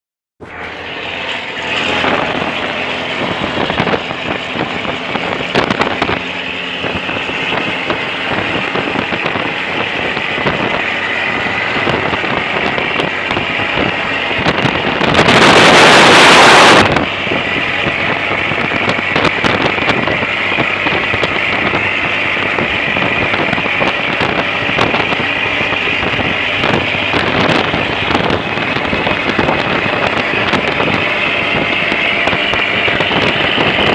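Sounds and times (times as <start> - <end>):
engine running steadily: 0.4 - 33.9.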